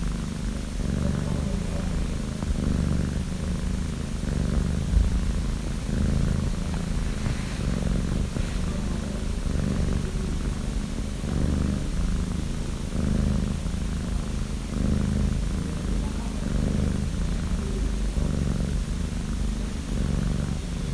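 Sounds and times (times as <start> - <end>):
kitten snoring: 0.0 - 20.9.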